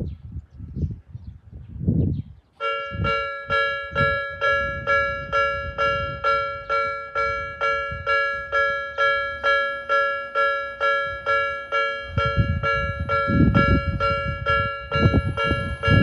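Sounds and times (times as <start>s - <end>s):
railway crossing bell dinging: 2.6s - 16.0s.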